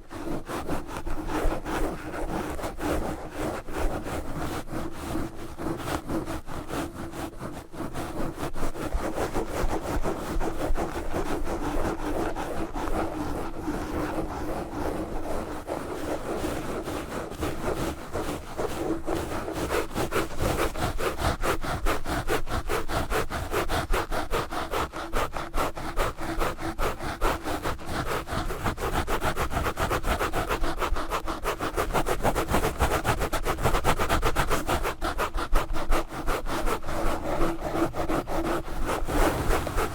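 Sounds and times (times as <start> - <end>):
gloves scratching on microphone: 0.1 - 39.9.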